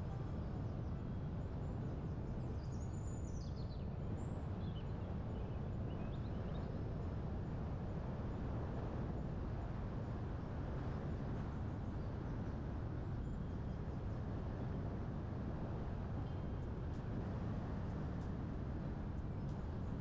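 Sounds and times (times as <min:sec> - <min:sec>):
low rush of wind-like noise: 0:00.0 - 0:20.0.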